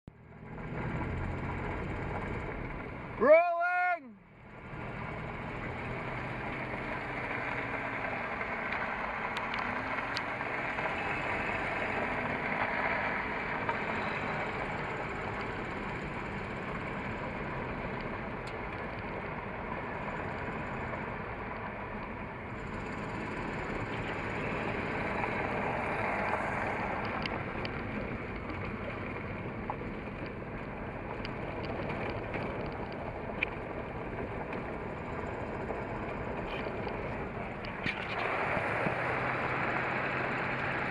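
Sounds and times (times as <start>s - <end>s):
truck engine running: 0.1s - 40.9s.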